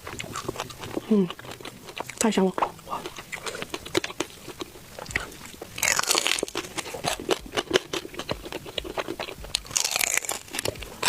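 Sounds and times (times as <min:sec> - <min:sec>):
chewing and biting clicks: 0:00.0 - 0:11.0
crunching bite: 0:00.0 - 0:11.0.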